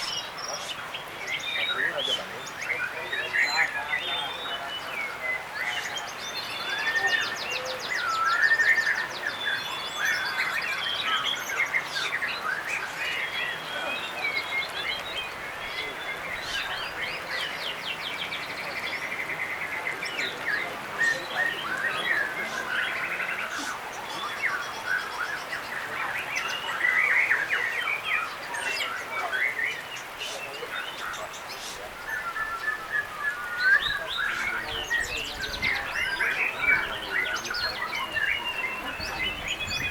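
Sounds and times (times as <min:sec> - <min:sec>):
birds singing whistles and trills: 0:00.0 - 0:39.9.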